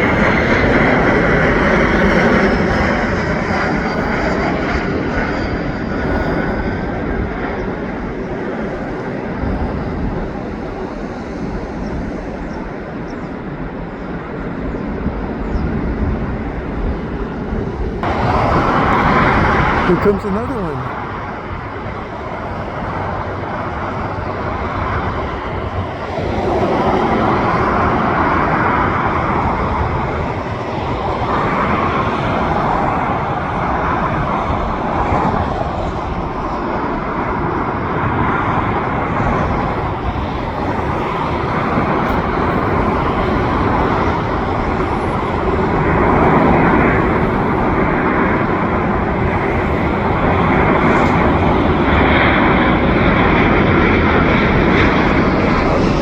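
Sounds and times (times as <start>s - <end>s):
jet airliner engines: 0.0s - 56.0s.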